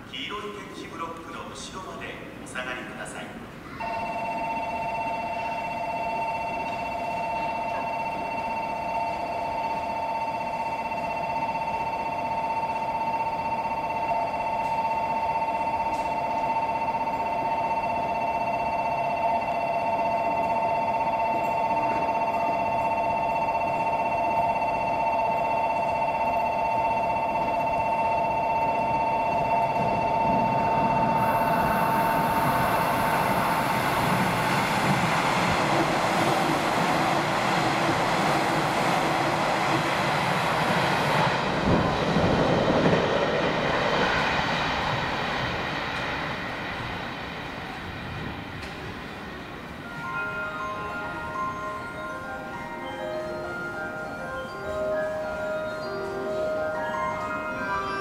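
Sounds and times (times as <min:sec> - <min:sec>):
train running noise: 0:00.0 - 0:58.0
two-tone warning alarm ringing: 0:03.8 - 0:58.0.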